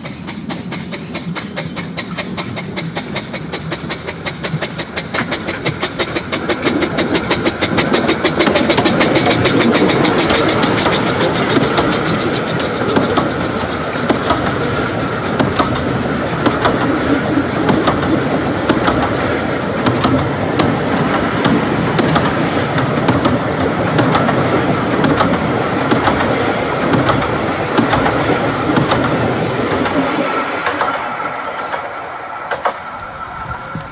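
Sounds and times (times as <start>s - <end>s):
steam locomotive passing: 0.0s - 33.9s
train wheels clacking over rail joints: 0.0s - 33.9s.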